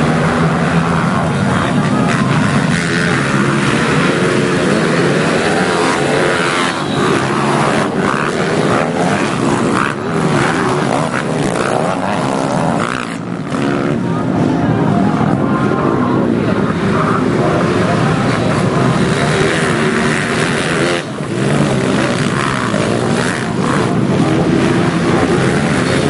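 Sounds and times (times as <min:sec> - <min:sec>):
small motorcycle engines revving: 0:00.0 - 0:26.0.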